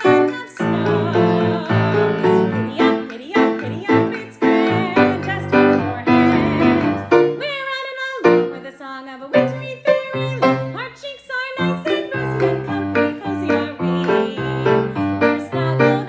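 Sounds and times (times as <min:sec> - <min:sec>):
person singing with vibrato: 0:00.0 - 0:16.0
piano accompaniment: 0:00.0 - 0:16.0.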